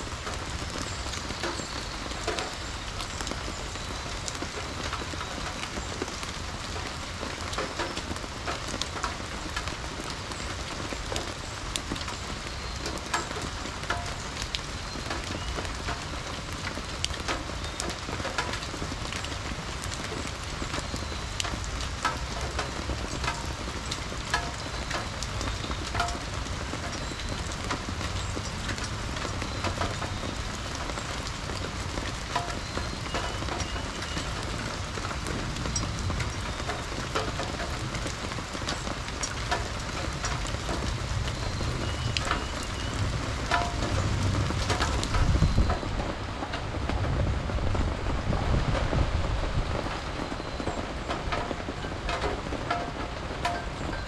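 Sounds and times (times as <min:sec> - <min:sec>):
rain pattering and dripping: 0:00.0 - 0:54.0.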